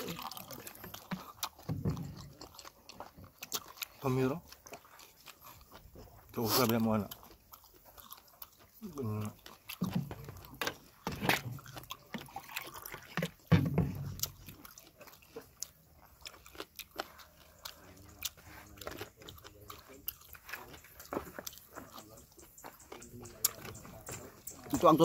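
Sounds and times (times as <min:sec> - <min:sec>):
people chewing: 0:00.0 - 0:25.0.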